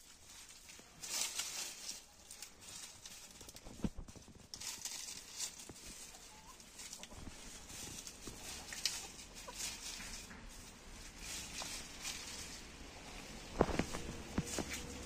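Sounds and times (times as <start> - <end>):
hens scratching through leaf litter: 0.0 - 15.0.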